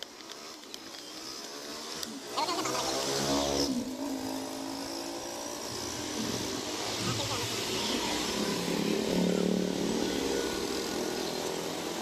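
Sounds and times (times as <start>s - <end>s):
vehicle engine passing by: 1.2s - 12.0s.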